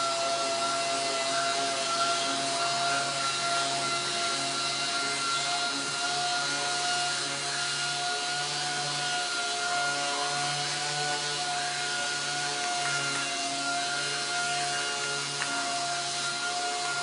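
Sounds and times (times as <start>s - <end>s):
orbital sander high whine: 0.0s - 17.0s.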